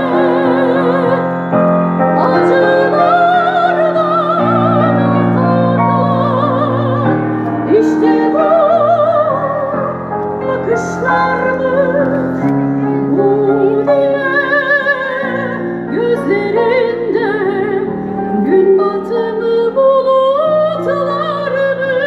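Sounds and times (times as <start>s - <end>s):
held keyboard chords: 0.0s - 22.0s
soprano singing operatic melody: 0.0s - 22.0s.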